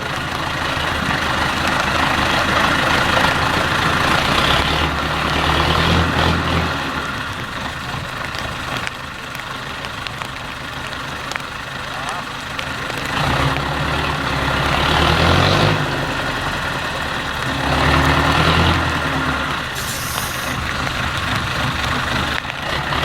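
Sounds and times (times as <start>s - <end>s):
truck diesel engine working: 0.0s - 23.0s.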